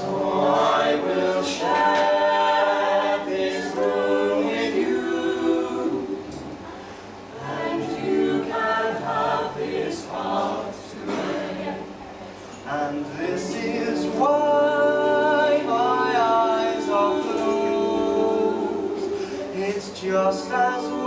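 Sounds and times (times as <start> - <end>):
a cappella group singing in harmony: 0.0 - 12.1, 12.7 - 21.0.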